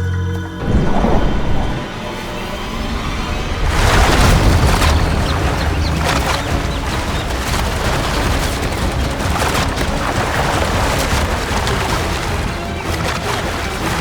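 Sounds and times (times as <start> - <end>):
background music with low rumble: 0.0 - 14.0.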